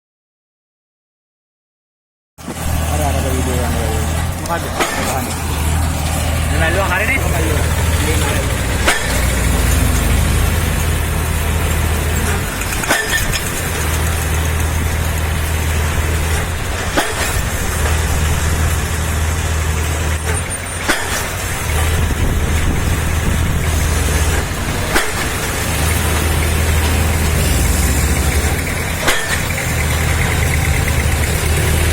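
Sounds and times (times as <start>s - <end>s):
heavy engine rumbling: 2.4s - 31.9s.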